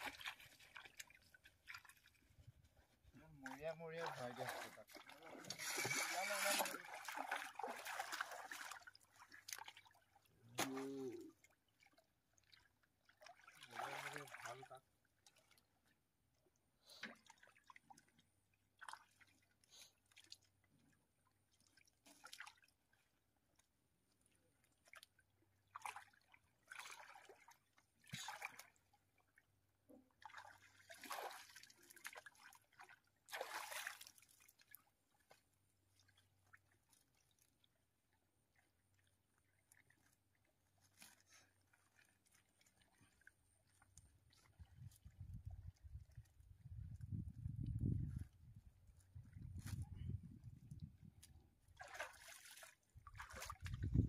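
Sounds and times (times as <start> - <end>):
splashing in muddy water: 0.0 - 15.7, 16.9 - 23.3, 24.2 - 54.0.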